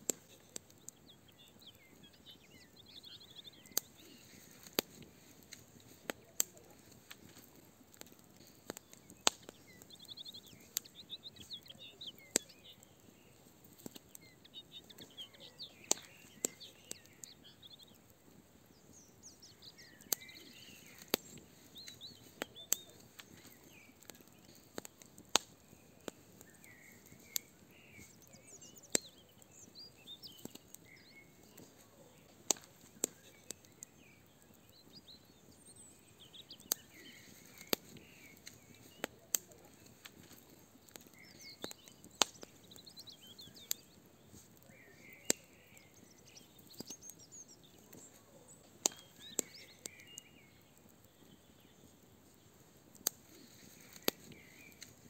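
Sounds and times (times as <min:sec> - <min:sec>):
fire crackling and popping: 0:00.0 - 0:55.0
songbirds chirping: 0:00.0 - 0:55.0.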